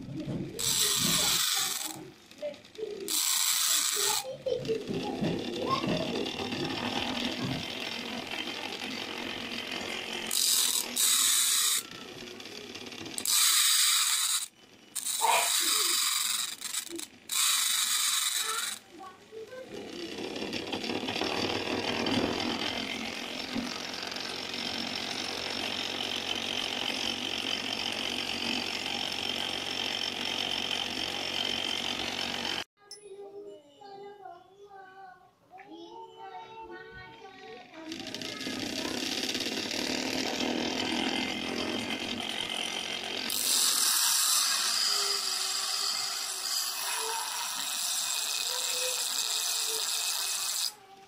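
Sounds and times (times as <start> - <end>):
gear mechanism whirring: 0.0 - 32.7, 37.8 - 51.0.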